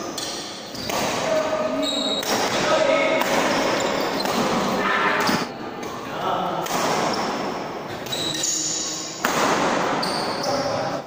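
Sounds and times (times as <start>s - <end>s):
rackets hitting shuttlecock: 0.1s - 6.0s, 6.6s - 10.4s.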